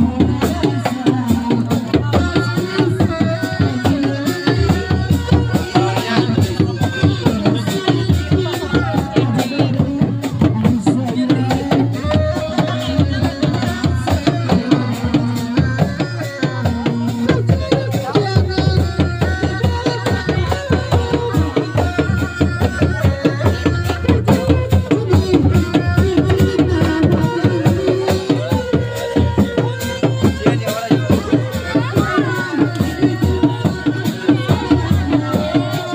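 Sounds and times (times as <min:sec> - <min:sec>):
fast dense drumming: 0:00.0 - 0:35.9
held bending melody line: 0:00.0 - 0:35.9.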